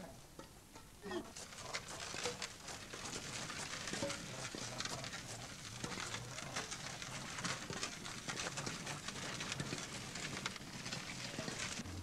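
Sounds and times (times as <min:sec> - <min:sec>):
wooden cart crunching on gravel: 0:01.0 - 0:12.0
small clicks and crackles: 0:01.3 - 0:12.0.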